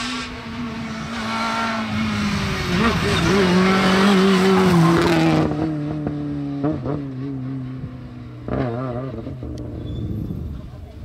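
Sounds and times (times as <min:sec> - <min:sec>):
rally car engine passing: 0:00.0 - 0:11.0.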